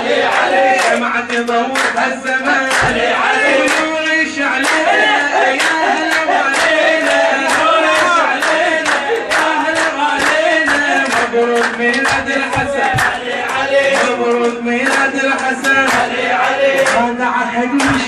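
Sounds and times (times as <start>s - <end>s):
men chanting in unison: 0.0s - 18.0s
hand claps: 0.1s - 18.0s.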